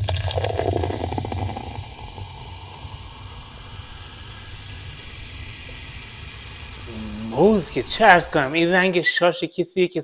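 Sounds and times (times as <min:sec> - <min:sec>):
soda pouring over ice: 0:00.0 - 0:08.8.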